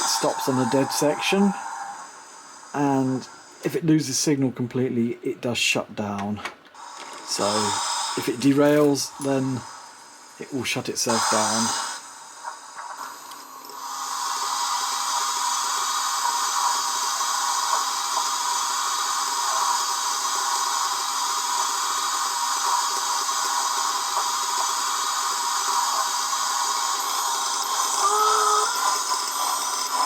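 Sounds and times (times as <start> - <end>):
model locomotive steam hiss: 0.0 - 4.2, 6.8 - 30.0.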